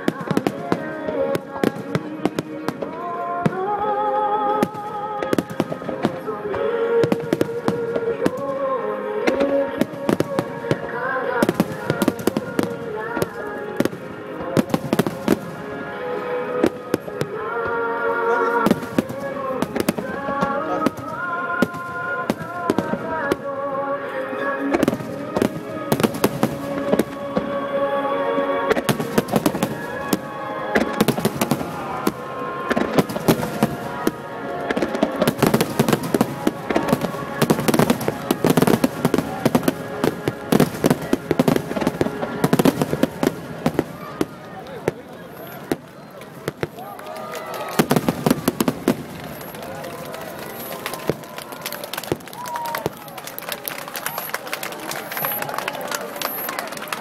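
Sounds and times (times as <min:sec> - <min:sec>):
fireworks bangs and crackles: 0:00.0 - 0:17.8, 0:18.5 - 0:23.8, 0:24.6 - 0:27.8, 0:28.7 - 0:57.0
music playing: 0:00.0 - 0:57.0.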